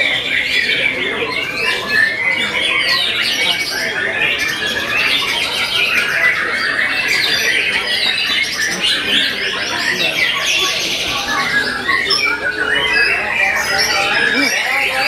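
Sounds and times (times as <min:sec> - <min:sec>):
caged birds singing: 0:00.0 - 0:15.0.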